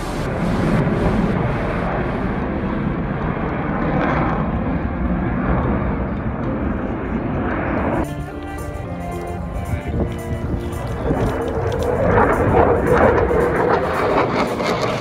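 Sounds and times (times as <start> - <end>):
aircraft engine flying past: 0.0 - 15.0.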